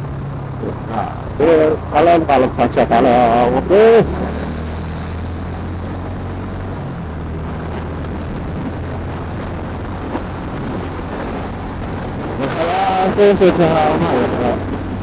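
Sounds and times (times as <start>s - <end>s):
motorcycle engine humming: 0.0s - 15.0s
wind and road noise: 0.0s - 15.0s.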